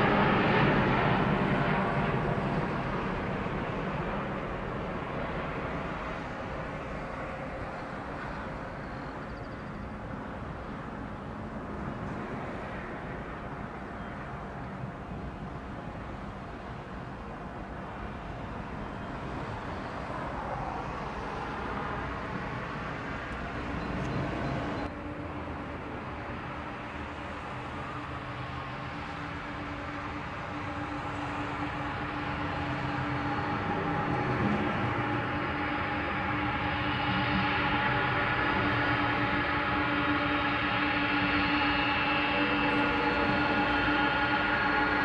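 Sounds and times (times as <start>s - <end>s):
distant jet engine rumble: 0.0s - 45.0s.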